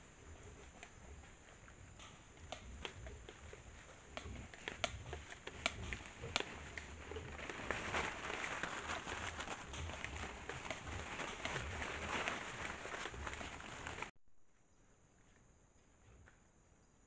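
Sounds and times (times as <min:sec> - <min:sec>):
rustling in dry leaves: 0:00.0 - 0:14.1.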